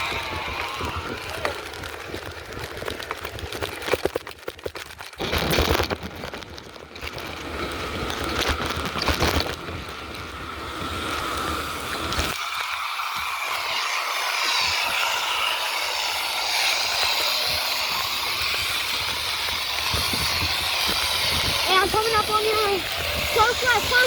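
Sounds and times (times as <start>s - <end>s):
wind buffeting microphone: 0.0s - 4.2s, 5.2s - 12.4s, 16.2s - 24.0s
bicycle rattling and clicking: 0.0s - 24.0s.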